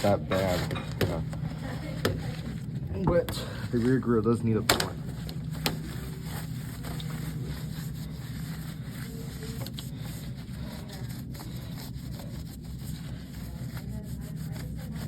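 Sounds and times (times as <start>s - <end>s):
steady low hum: 0.0s - 15.0s
towel rubbing on fan grille: 0.0s - 15.0s.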